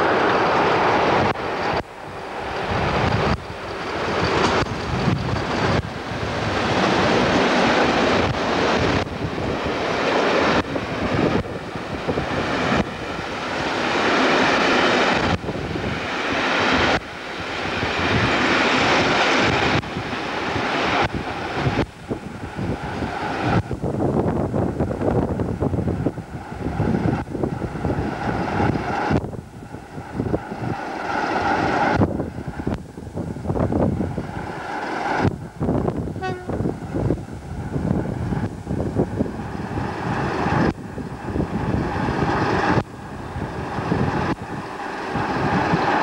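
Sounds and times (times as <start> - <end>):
diesel locomotive running: 0.0 - 46.0
wind buffeting microphone: 0.0 - 46.0.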